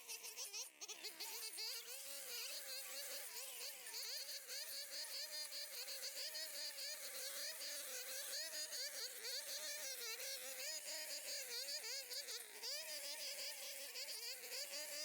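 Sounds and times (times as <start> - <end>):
insects buzzing drone: 0.0 - 15.0.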